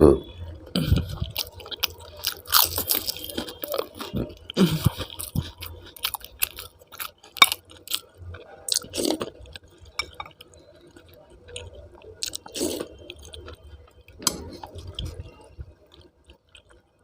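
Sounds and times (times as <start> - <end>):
chewing food with mouth clicks: 0.7 - 17.0.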